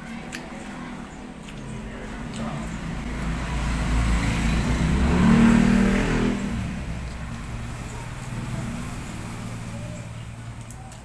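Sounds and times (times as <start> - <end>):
vehicle passing by: 1.7 - 11.0.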